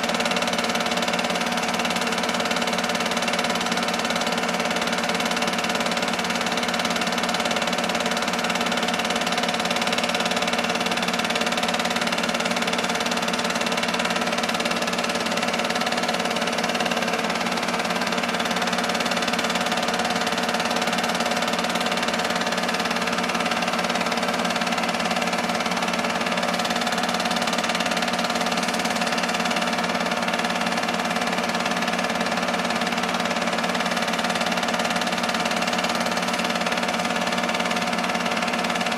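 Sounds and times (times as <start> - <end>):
film projector motor whirring: 0.0 - 38.9.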